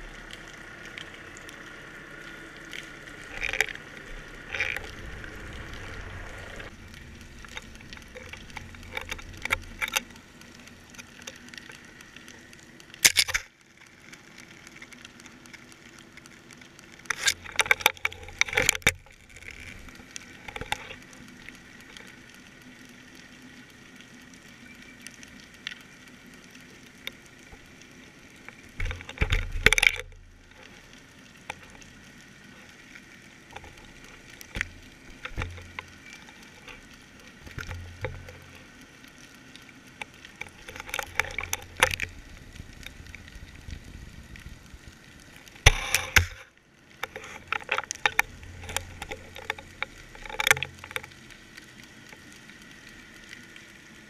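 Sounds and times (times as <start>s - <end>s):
low steady underwater background: 0.0s - 54.0s
underwater clicks and crackles: 0.0s - 54.0s.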